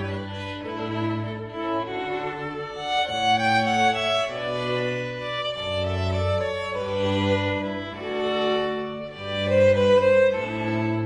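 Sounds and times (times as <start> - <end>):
slow string music: 0.0 - 11.0.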